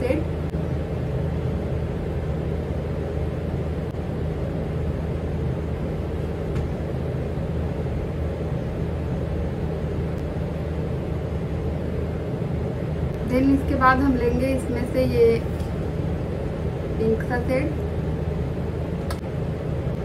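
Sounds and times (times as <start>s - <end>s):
low mechanical hum and rumble: 0.0s - 20.0s.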